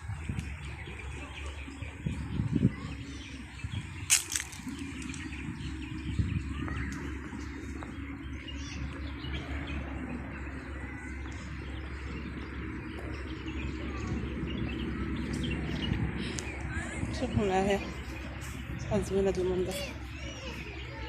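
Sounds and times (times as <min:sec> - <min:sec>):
low outdoor background noise: 0:00.0 - 0:21.0
small birds chirping: 0:00.0 - 0:21.0.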